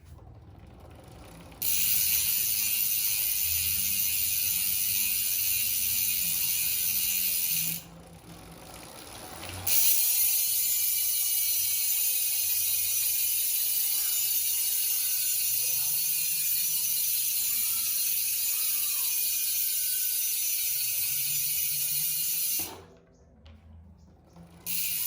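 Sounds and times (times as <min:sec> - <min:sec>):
bicycle hub ratchet buzzing: 0:00.0 - 0:22.9, 0:24.4 - 0:25.0.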